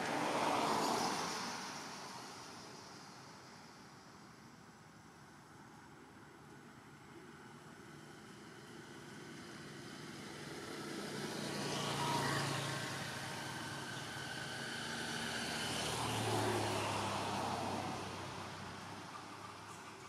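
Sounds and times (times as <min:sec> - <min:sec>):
passing motor vehicles: 0:00.0 - 0:04.6, 0:06.8 - 0:20.0.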